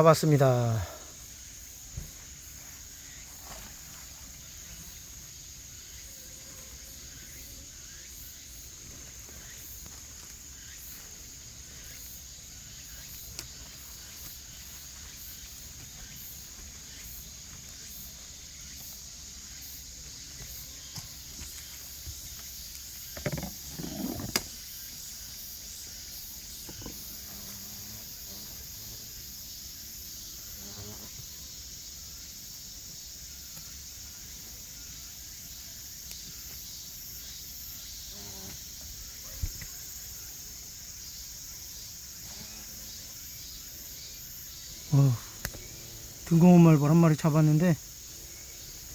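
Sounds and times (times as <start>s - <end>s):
insects chorus: 0.0s - 48.9s
rustle: 0.0s - 48.9s.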